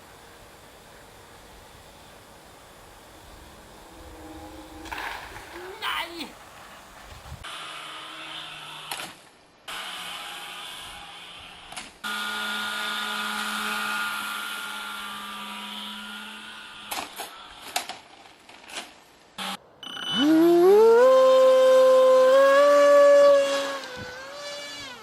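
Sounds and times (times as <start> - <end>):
small motor whining with hiss: 0.0 - 5.7, 6.4 - 18.0, 19.4 - 25.0.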